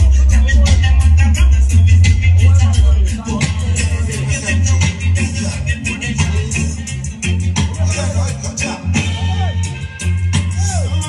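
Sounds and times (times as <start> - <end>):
loud music with heavy bass: 0.0 - 11.0.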